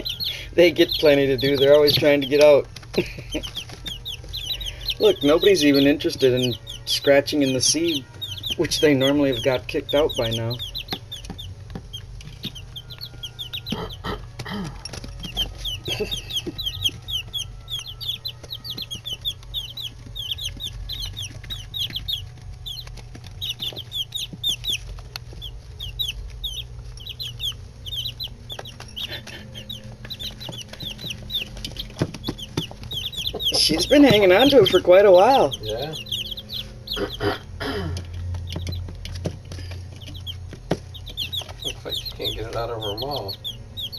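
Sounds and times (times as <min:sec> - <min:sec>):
chicks peeping: 0:00.0 - 0:43.9
steady low hum: 0:00.0 - 0:43.9.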